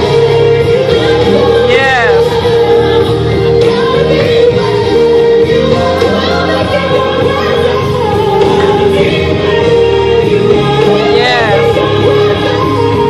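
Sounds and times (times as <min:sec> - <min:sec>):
gospel worship music: 0:00.0 - 0:13.0.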